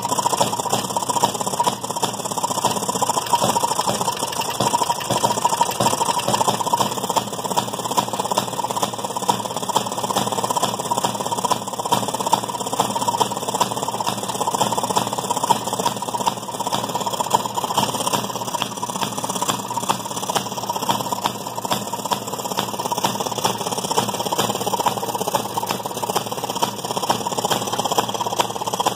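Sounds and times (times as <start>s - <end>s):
two-stroke engine firing: 0.0s - 28.9s
washing machine clatter: 0.0s - 28.9s.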